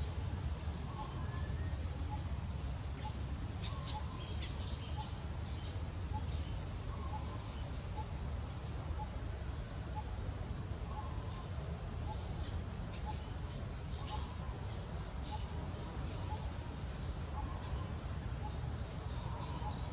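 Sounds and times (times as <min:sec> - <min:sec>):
high insect drone: 0:00.0 - 0:19.9.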